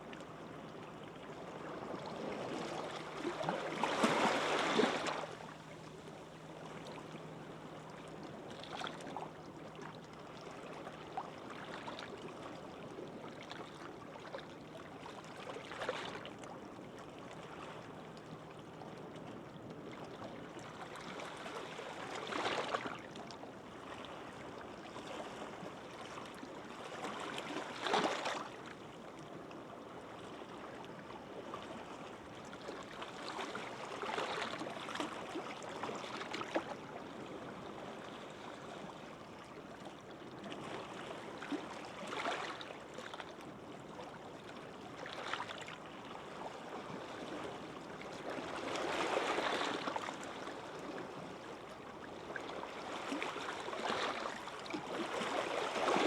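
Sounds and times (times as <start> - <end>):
gentle sea waves breaking: 0.0 - 56.0.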